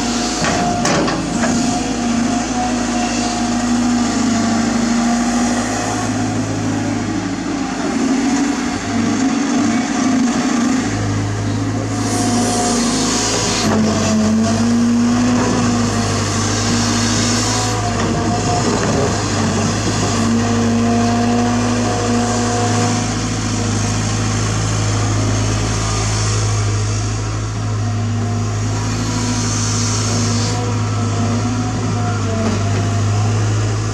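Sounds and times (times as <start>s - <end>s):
excavator diesel engine: 0.0s - 33.9s
hydraulic whine: 0.0s - 33.9s.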